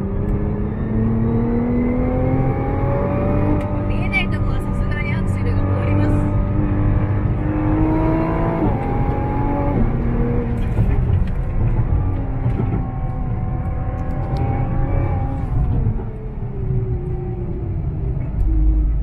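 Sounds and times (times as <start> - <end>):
car engine from inside cabin: 0.0 - 19.0
road and tyre rumble: 0.0 - 19.0.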